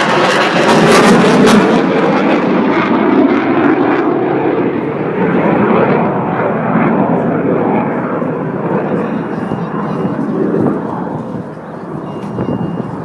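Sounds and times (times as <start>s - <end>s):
airplane flying past: 0.0s - 13.0s.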